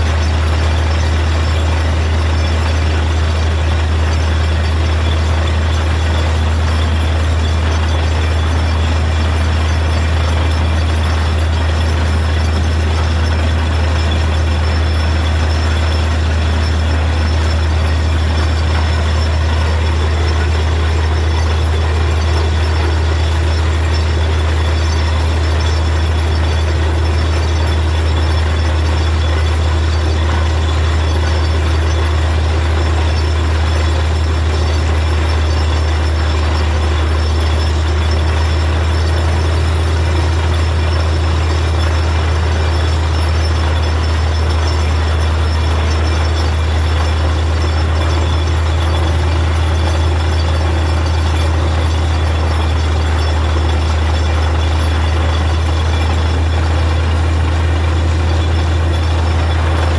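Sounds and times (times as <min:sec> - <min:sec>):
drilling rig engine drone: 0:00.0 - 0:59.9.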